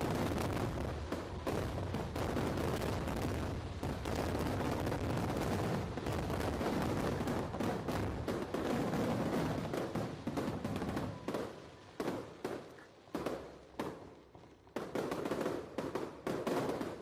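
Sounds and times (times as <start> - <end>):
fireworks bangs and crackle: 0.0 - 17.0.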